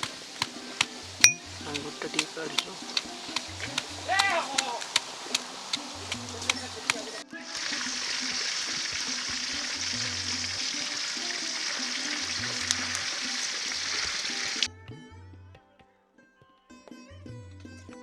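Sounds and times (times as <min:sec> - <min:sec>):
music with low repeated notes: 0:00.0 - 0:04.4, 0:05.1 - 0:18.0
chicken sizzling in hot oil: 0:00.0 - 0:14.7.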